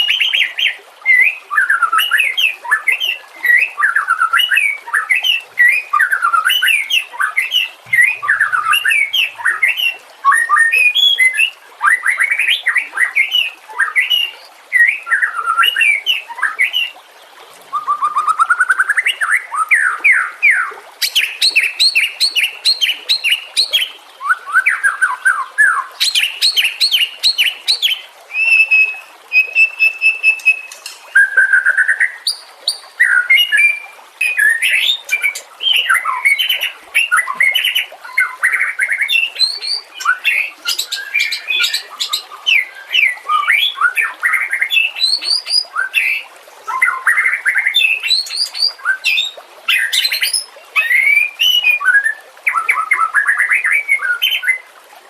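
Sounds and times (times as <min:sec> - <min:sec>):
songbird singing trills: 0:00.0 - 0:16.9, 0:17.7 - 0:54.6.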